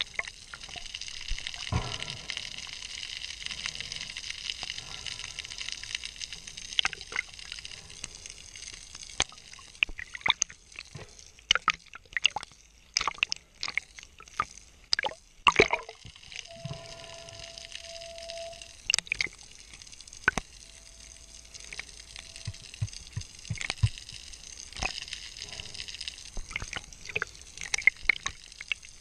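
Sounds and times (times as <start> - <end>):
sharp clicks and pops: 0.0 - 16.5, 17.5 - 29.0.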